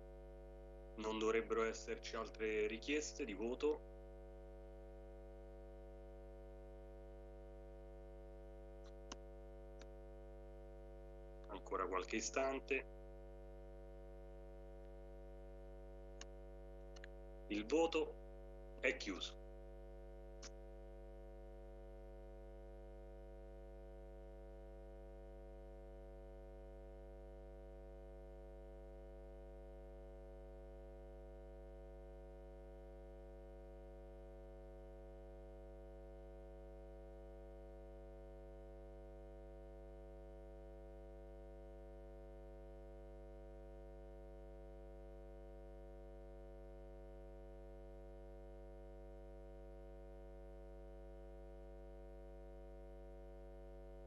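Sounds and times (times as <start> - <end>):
faint mains hum: 0.0 - 54.0.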